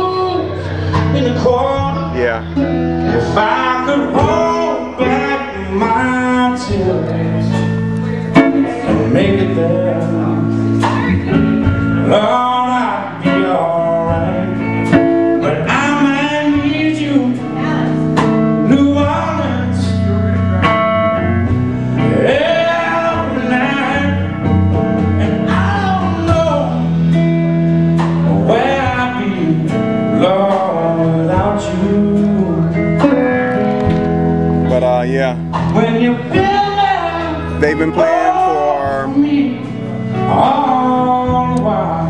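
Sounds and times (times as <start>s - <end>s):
man singing: 0.0s - 20.4s, 22.0s - 27.2s, 28.0s - 33.8s, 34.6s - 42.0s
bass line: 0.0s - 42.0s
drums: 0.0s - 42.0s
guitar: 0.0s - 42.0s.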